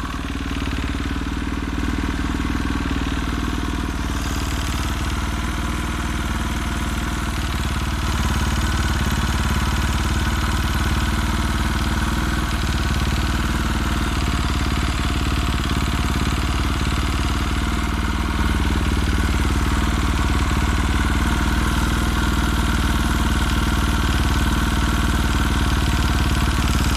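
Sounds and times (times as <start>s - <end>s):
motorcycle engine idling with knocking: 0.0s - 26.9s.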